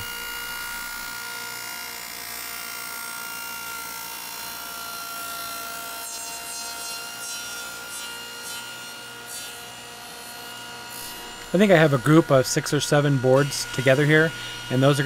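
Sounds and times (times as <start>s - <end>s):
table saw whining: 0.0s - 15.0s.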